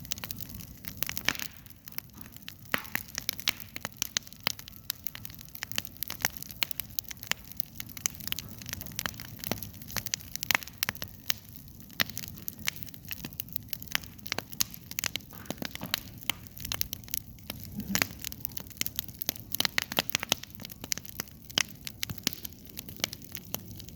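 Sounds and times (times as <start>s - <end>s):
campfire crackling: 0.0s - 23.9s.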